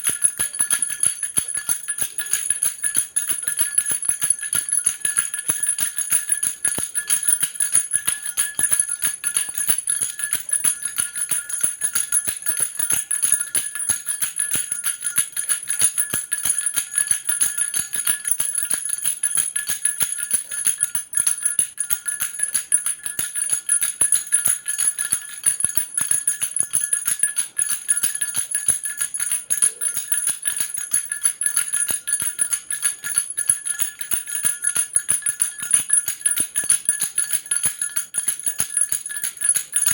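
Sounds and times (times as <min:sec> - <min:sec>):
baby rattle bells jingling: 0:00.0 - 0:39.9.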